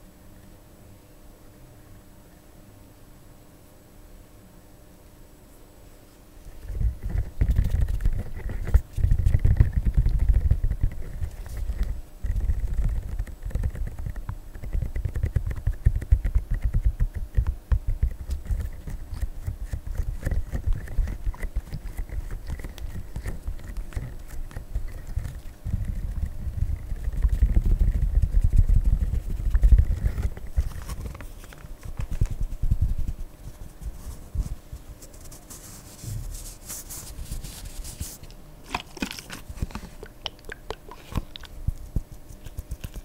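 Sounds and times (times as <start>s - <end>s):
fingers rubbing silicone toy: 6.7s - 38.2s, 39.6s - 43.0s.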